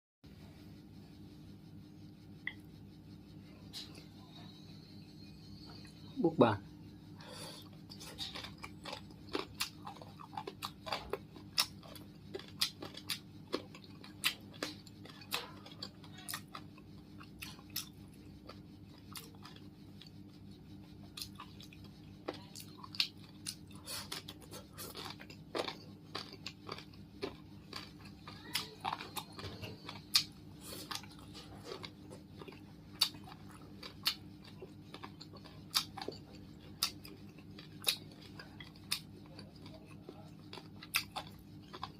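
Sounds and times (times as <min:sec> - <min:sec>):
steady low hum: 0:00.3 - 0:41.9
chewing and crunching: 0:03.4 - 0:41.9.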